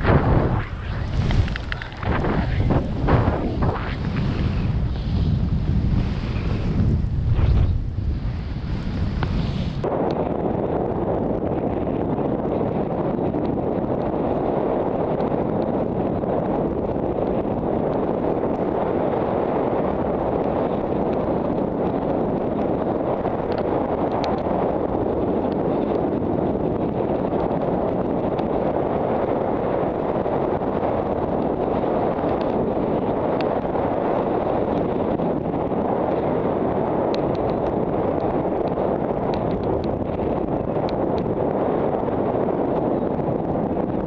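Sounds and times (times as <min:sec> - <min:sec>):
wind rushing on microphone: 0:00.0 - 0:44.0.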